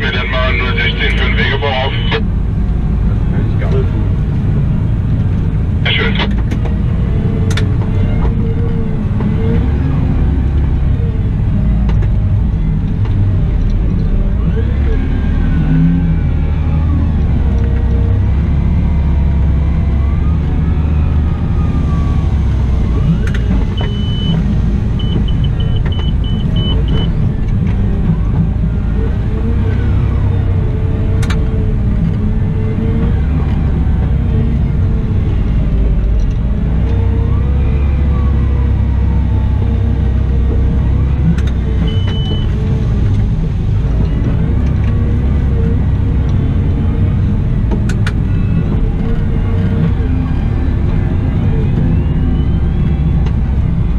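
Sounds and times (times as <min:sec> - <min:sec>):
constant whine: 0:00.0 - 0:53.9
wheel loader engine: 0:00.0 - 0:53.9.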